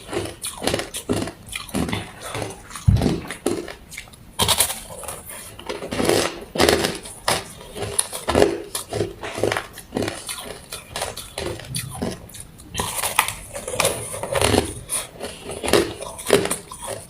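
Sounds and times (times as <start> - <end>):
ice crunching between teeth: 0.0 - 17.0.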